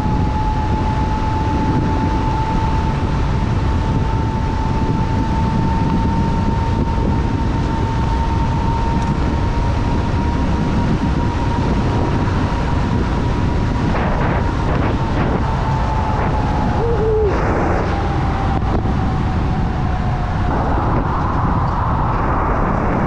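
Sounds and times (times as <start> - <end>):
electric motor whine: 0.0 - 22.5
wind rush on microphone: 0.0 - 23.0.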